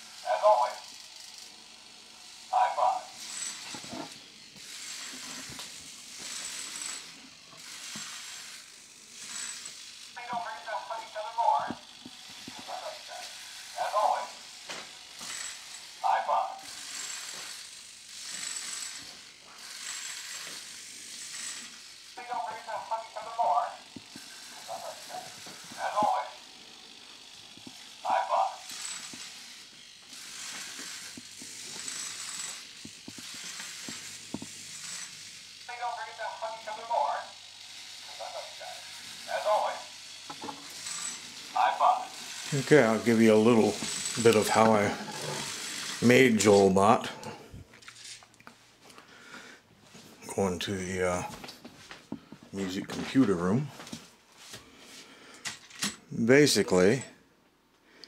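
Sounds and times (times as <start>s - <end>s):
servo motors whirring and grinding: 0.2s - 48.2s.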